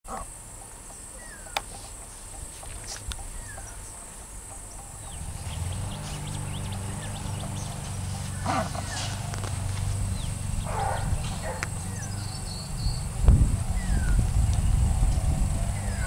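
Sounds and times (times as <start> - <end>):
birds chirping: 0.1 - 16.0
diesel locomotive engine drone: 0.3 - 16.0.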